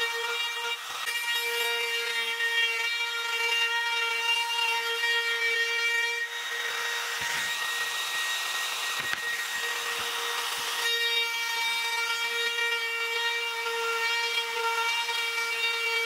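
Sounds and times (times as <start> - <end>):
router cutting wood: 0.0 - 16.0
router motor whining: 0.0 - 16.0.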